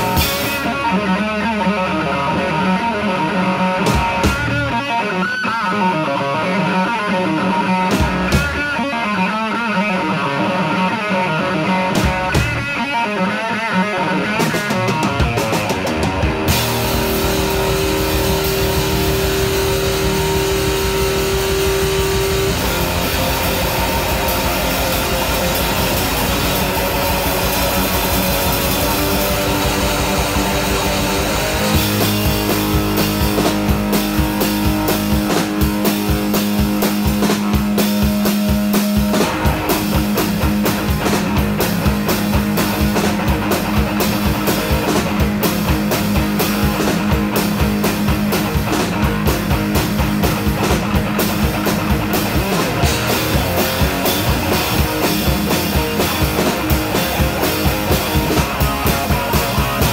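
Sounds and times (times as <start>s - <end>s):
electric guitar bending notes: 0.0s - 59.9s
rock band with drums: 0.0s - 59.9s.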